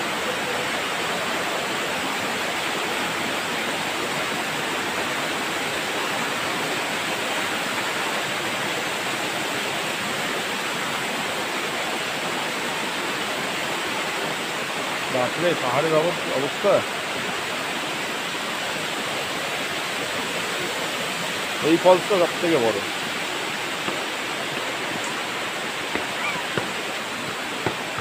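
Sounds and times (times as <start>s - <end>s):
waterfall pouring over rocks: 0.0s - 28.0s.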